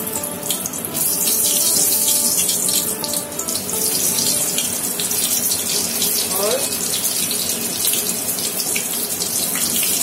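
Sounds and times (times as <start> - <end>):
deep-frying in hot oil: 0.0 - 10.0
battered food bubbling in oil: 0.1 - 10.0.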